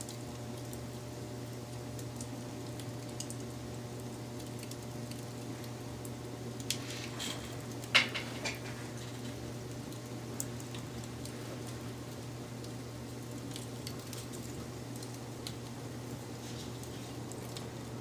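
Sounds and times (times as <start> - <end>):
wood fire crackling: 0.0 - 18.0
sharp snaps of fire: 1.9 - 17.7.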